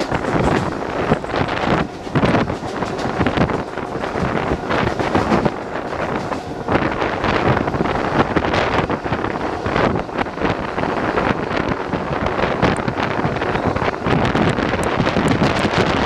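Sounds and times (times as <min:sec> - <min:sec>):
train running on track: 0:00.0 - 0:16.0
wind buffeting microphone: 0:00.0 - 0:16.0.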